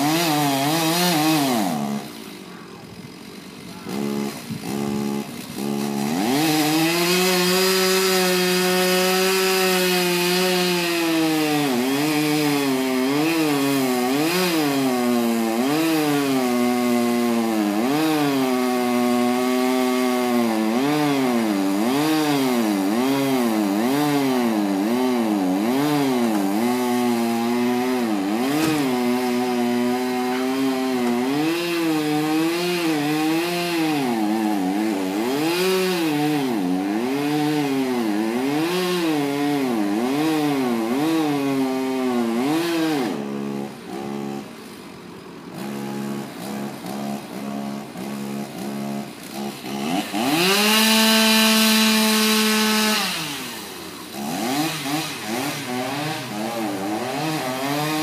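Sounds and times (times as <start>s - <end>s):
chainsaw cutting tree trunk: 0.0s - 58.0s.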